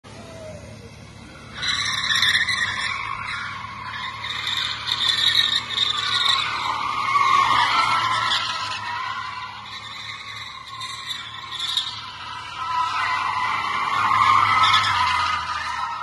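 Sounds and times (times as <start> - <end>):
car tyres squealing: 0.1 - 16.0.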